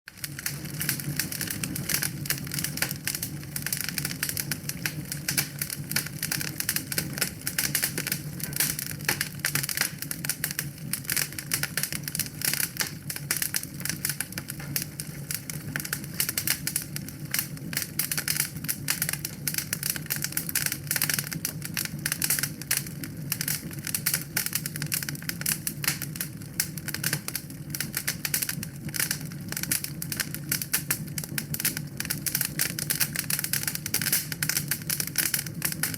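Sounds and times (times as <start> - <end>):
wood fire crackling: 0.1 - 35.9.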